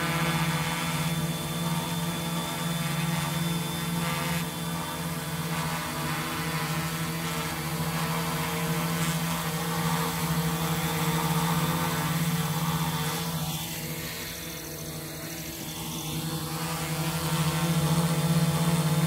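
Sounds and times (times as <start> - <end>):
quadcopter propellers buzzing: 0.0 - 19.0.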